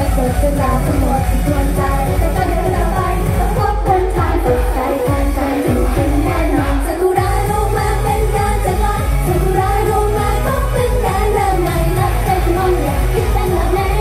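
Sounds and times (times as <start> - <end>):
person singing pop song: 0.0 - 14.0
steady drum beat: 0.0 - 14.0.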